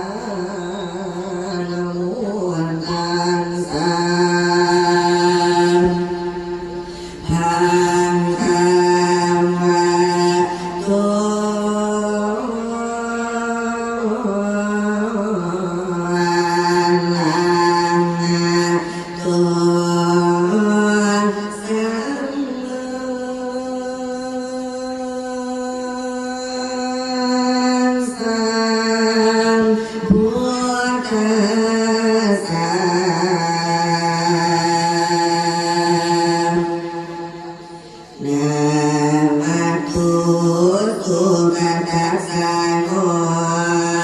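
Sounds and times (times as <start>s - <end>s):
man singing long held notes: 0.0s - 44.0s
solo voice chanting: 0.0s - 44.0s.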